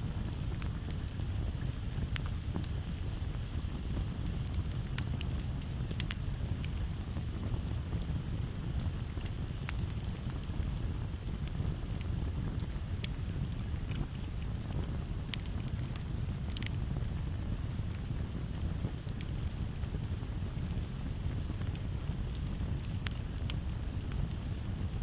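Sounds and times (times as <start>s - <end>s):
campfire crackling and popping: 0.0s - 25.0s
low rumble of wind: 0.0s - 25.0s
crickets trilling: 0.1s - 25.0s.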